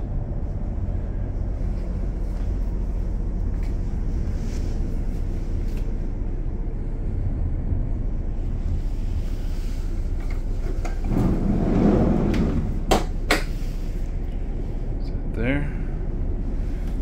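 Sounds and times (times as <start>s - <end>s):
machinery rumbling: 0.0s - 17.0s.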